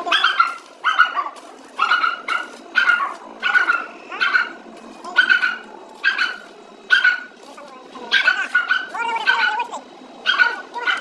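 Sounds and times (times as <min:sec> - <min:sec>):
dog barking: 0:00.0 - 0:07.4, 0:08.1 - 0:11.0.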